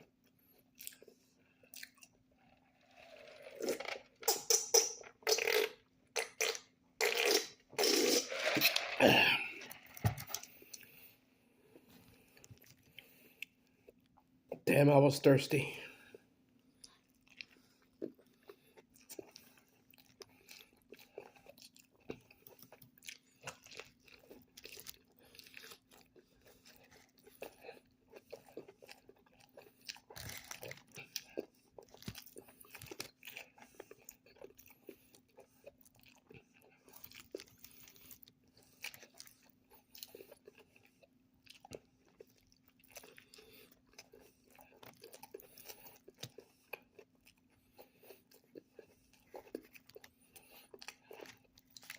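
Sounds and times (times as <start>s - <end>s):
person chewing and crunching: 0.0s - 14.9s, 16.8s - 51.9s.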